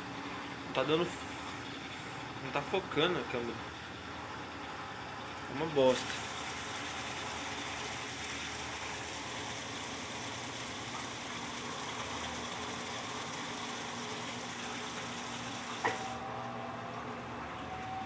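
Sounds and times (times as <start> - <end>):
washing machine churning: 0.0 - 18.0.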